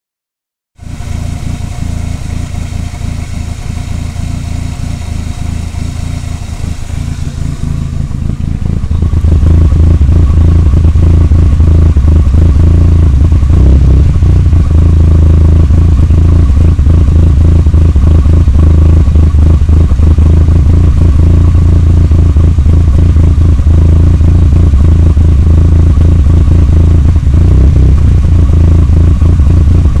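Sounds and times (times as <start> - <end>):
engine idling roughly: 0.8 - 30.0.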